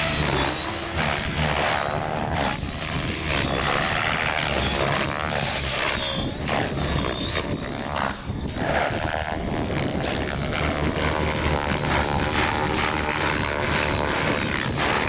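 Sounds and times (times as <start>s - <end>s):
helicopter motor whine: 0.0s - 15.0s
rotor blades whooshing: 0.0s - 15.0s
wind buffeting microphone: 0.0s - 15.0s.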